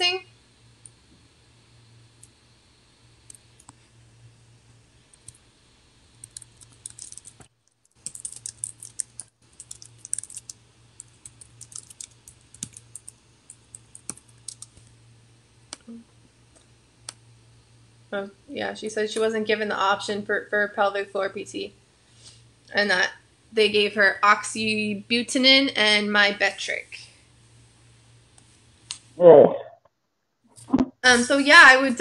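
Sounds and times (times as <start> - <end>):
faint steady hum: 0.0 - 29.7, 30.5 - 32.0.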